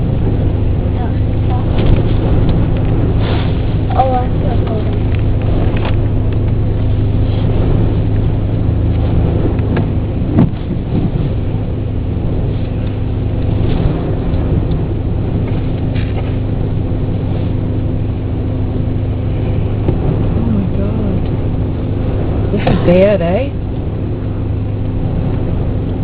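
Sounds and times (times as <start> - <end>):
car engine idling: 0.0 - 26.0
storm rushing noise: 0.0 - 26.0.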